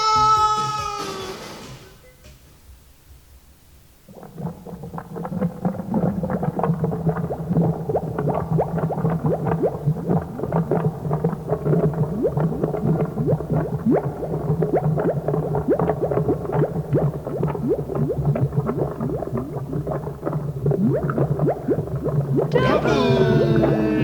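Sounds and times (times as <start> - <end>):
cauldron bubbling and gurgling: 3.4 - 24.0.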